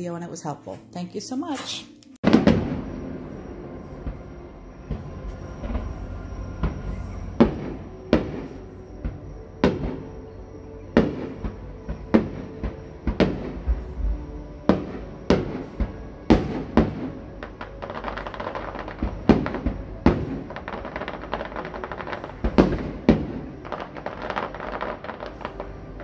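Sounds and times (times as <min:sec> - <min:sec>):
fireworks bursting: 0:02.2 - 0:26.0.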